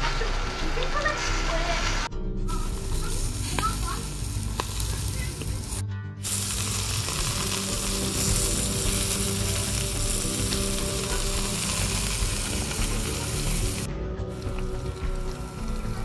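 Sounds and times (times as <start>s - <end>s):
burger patties sizzling on a grill: 0.0s - 16.0s.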